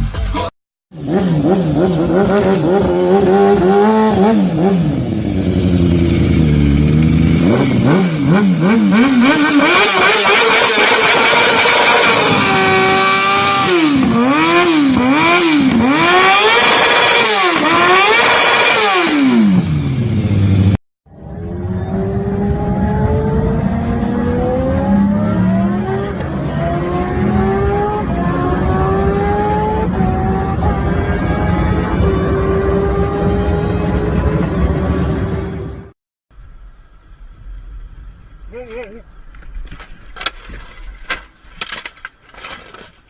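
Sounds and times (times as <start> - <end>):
vehicle engine revving: 0.9 - 36.0.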